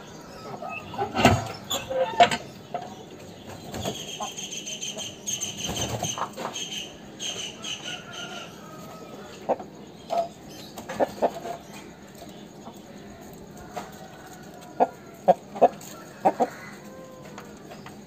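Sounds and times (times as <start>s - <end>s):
rooster clucking: 0.0s - 3.1s, 3.9s - 12.8s, 13.6s - 17.6s.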